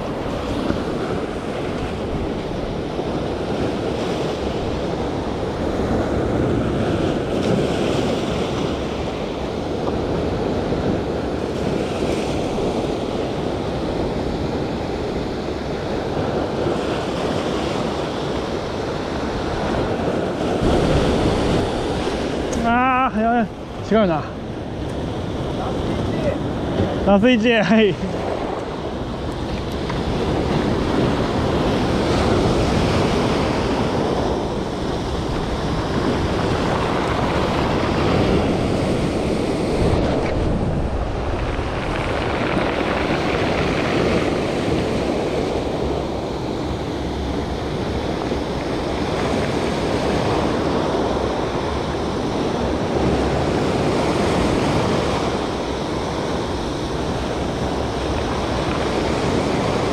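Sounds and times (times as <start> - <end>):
surf washing over rocks: 0.0 - 59.9
wind buffeting microphone: 0.0 - 59.9.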